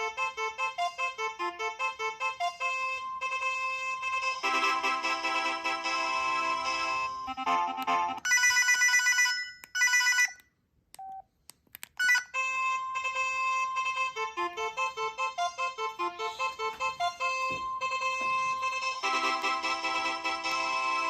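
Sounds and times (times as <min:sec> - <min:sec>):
electronic melody: 0:00.0 - 0:08.3, 0:12.0 - 0:21.0
phone ringtone tune: 0:00.0 - 0:10.4, 0:12.0 - 0:21.0.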